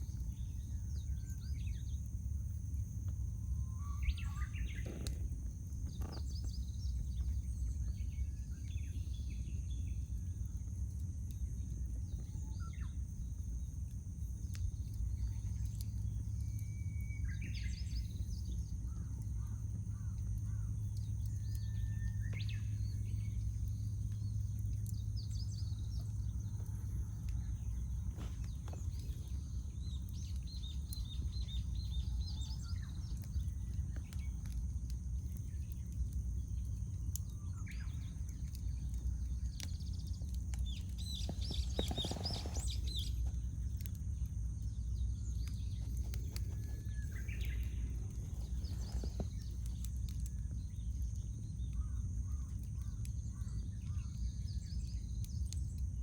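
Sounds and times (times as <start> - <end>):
campfire burning: 0.0 - 56.0
fire crackle: 0.0 - 56.0
small birds chirping: 0.0 - 56.0.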